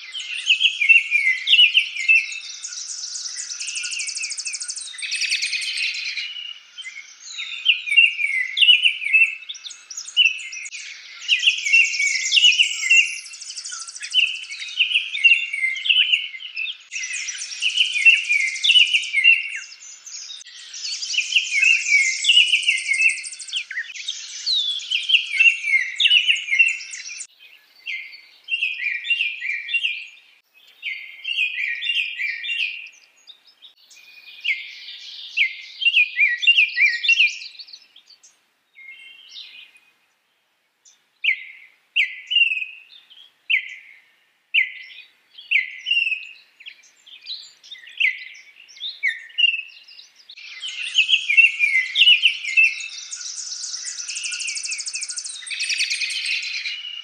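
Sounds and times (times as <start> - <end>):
bird singing whistled notes: 0.0 - 40.0, 40.8 - 57.0.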